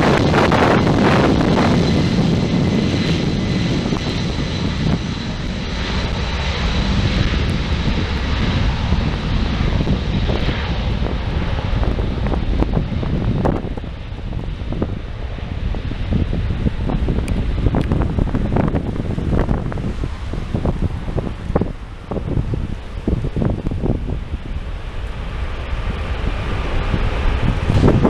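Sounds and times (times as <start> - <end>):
jet engines whining: 0.0 - 28.0
wind on microphone: 0.0 - 28.0.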